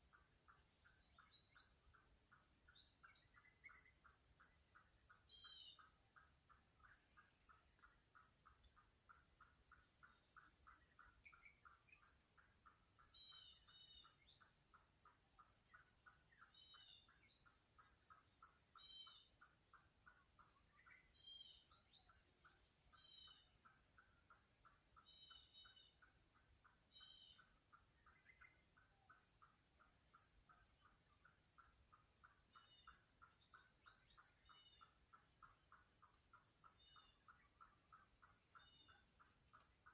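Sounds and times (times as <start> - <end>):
fast pulsing insect call: 0.0 - 39.9.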